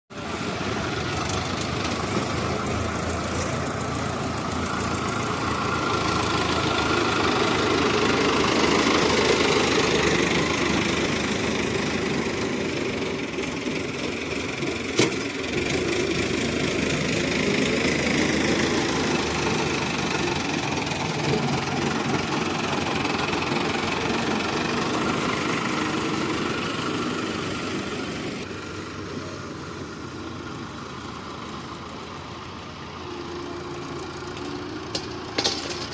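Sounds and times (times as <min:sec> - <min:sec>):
heavy diesel machinery running: 0:00.1 - 0:35.9.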